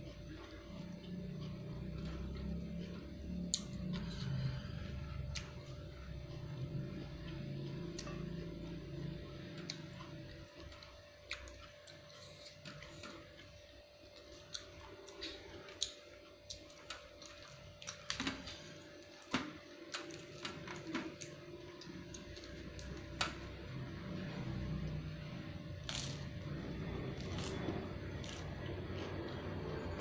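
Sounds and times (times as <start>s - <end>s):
chewing crunchy vegetables: 0.0s - 30.0s
faint steady hum: 0.0s - 30.0s.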